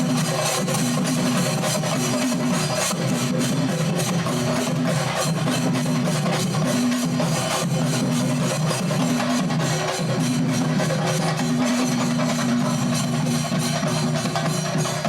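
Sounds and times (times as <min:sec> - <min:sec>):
fast drumming ensemble: 0:00.0 - 0:15.0
hand cymbals: 0:00.0 - 0:15.0.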